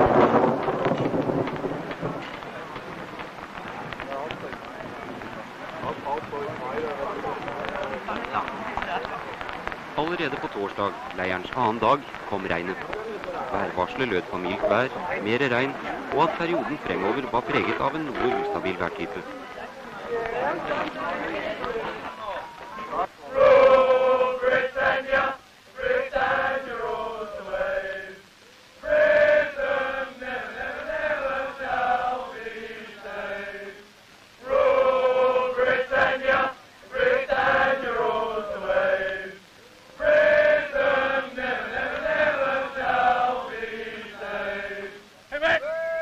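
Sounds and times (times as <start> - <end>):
group singing camp song: 0.0 - 46.0.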